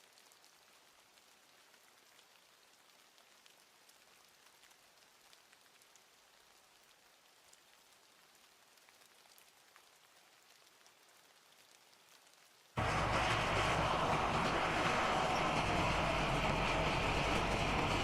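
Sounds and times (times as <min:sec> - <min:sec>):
faint rain patter: 0:00.0 - 0:18.0.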